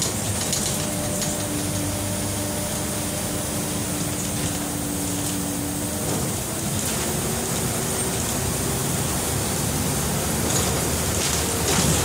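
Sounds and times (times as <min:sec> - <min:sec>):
bus diesel engine droning: 0:00.0 - 0:12.0
road and tyre noise: 0:00.0 - 0:12.0.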